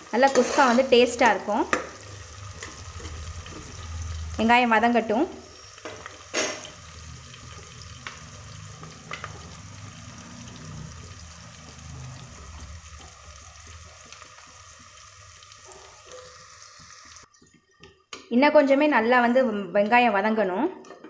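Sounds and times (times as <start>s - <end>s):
onions sizzling in oil: 0.0s - 17.3s.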